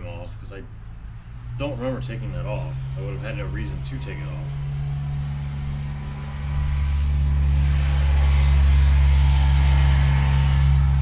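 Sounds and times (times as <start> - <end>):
golf cart driving past: 0.0 - 11.0
steady low hum: 0.0 - 11.0.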